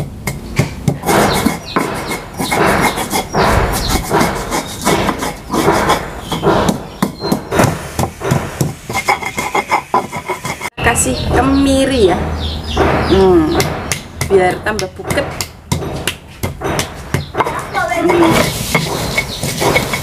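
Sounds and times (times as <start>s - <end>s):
stone pestle grinding in mortar: 0.2s - 10.8s, 13.6s - 20.0s.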